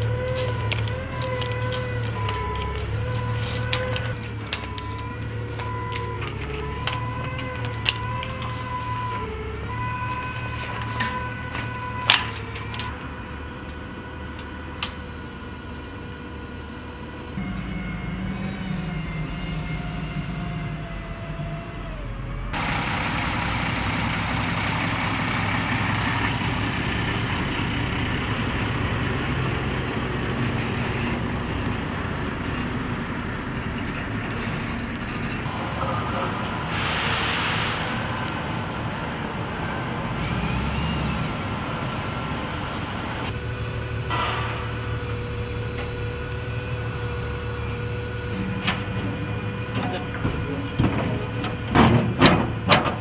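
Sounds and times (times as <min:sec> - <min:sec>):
lorry engine and road noise: 0:00.0 - 0:53.0.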